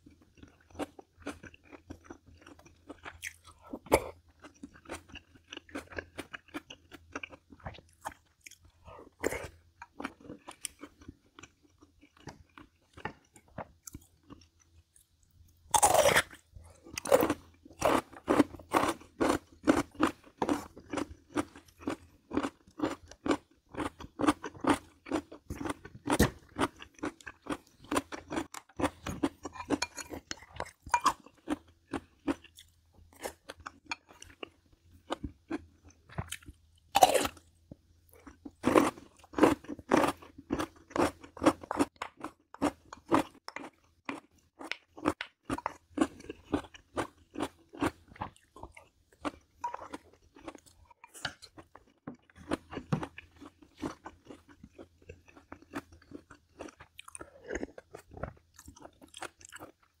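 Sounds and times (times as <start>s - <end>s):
crunchy food chewing: 0.0s - 60.0s.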